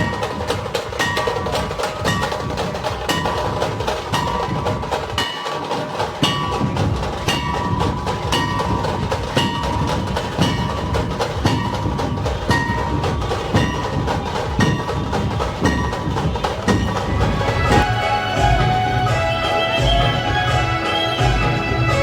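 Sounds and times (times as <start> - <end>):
loud percussive dance music: 0.0 - 22.0.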